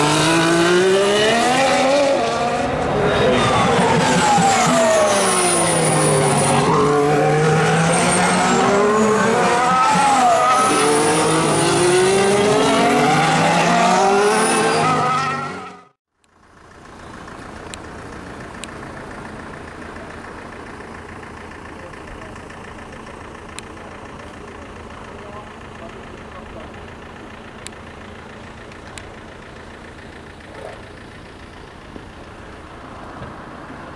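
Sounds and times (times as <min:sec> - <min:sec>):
racing car engines: 0:00.0 - 0:33.9.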